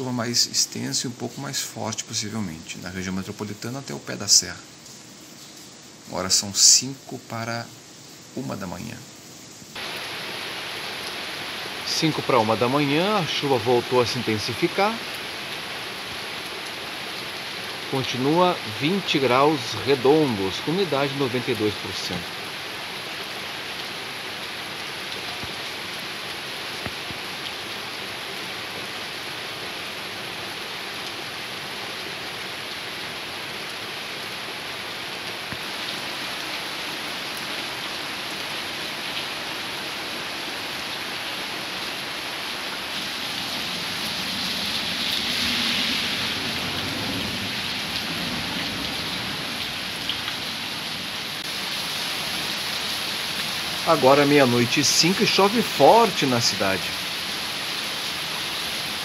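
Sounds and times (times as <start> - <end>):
heavy rain pouring: 9.7 - 59.0.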